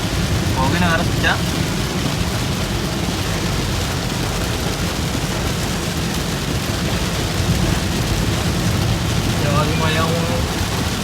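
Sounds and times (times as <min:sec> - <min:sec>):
heavy rain on vehicle: 0:00.0 - 0:11.0
low road rumble: 0:00.0 - 0:11.0.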